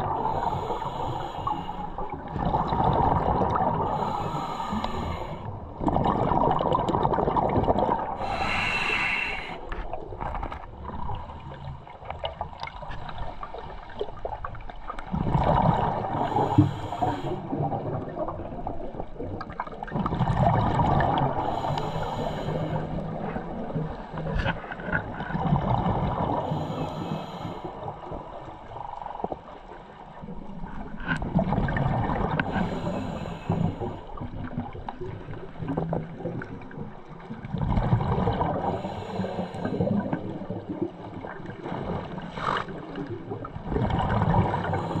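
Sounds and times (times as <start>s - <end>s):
gurgling exhaled bubbles: 0.0s - 45.0s.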